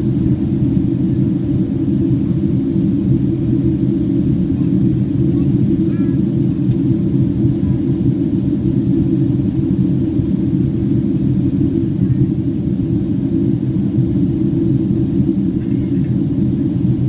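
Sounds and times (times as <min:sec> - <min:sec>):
airliner engine and airflow rumble: 0:00.0 - 0:17.0.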